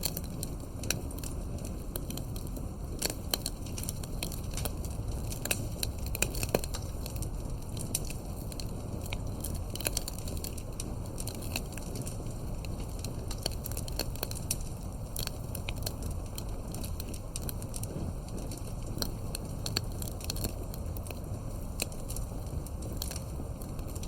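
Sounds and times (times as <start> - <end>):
campfire crackling with sharp pops: 0.0 - 24.0
low steady fire rush: 0.0 - 24.0.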